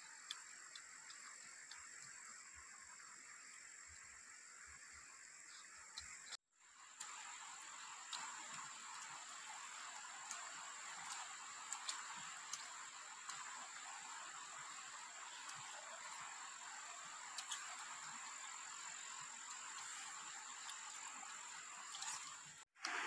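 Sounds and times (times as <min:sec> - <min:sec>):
insects and frogs chorus: 0:00.0 - 0:06.4, 0:07.0 - 0:22.6.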